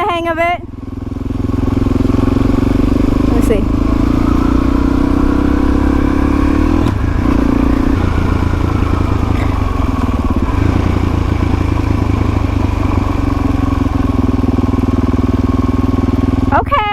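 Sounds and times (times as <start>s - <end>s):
dirt bike engine running: 0.0s - 16.9s.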